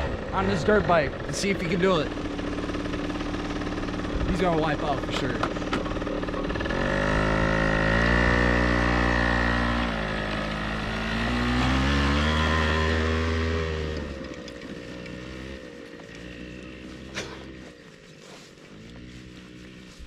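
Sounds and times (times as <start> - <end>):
moped engine revving: 0.0 - 20.0.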